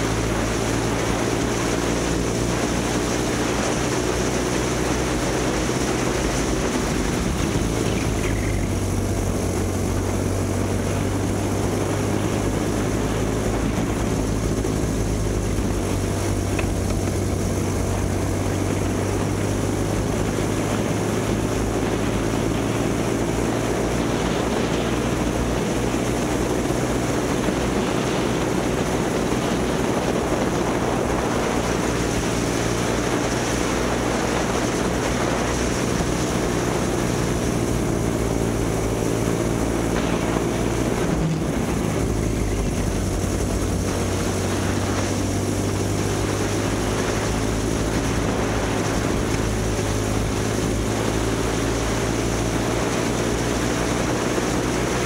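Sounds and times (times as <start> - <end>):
small two-stroke engine running: 0.0 - 55.0.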